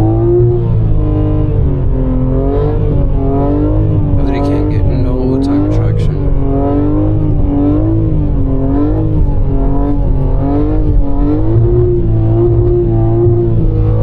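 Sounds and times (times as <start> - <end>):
car engine running inside cabin: 0.0 - 14.0.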